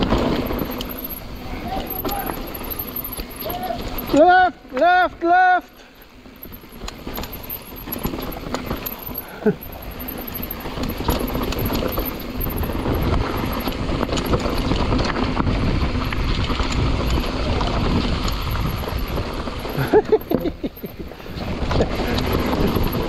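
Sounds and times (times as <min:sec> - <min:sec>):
bike tyres rumbling on dirt: 0:00.0 - 0:23.0.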